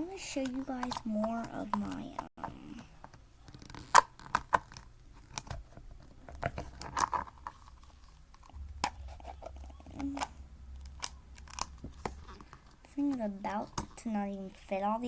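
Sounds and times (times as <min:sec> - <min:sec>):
fidget toys clicking and clattering: 0:00.2 - 0:14.1.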